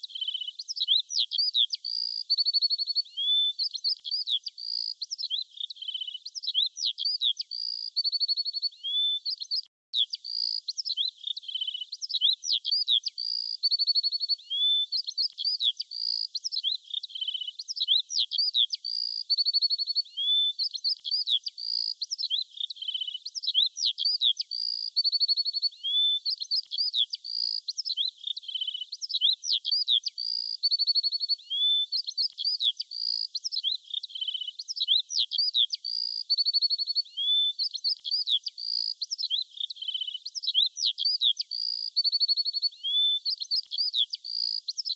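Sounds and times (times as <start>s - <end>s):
small songbirds chirping: 0.0s - 44.9s.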